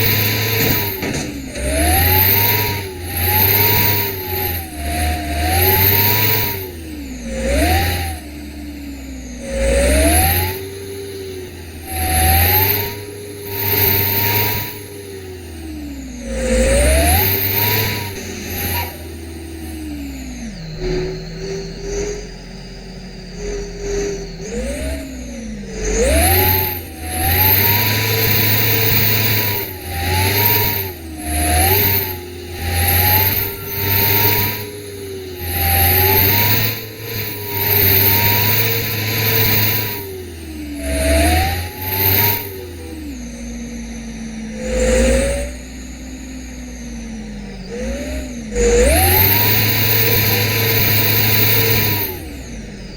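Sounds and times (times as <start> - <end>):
truck engine revving: 0.0 - 22.4, 23.3 - 43.8, 44.4 - 52.9.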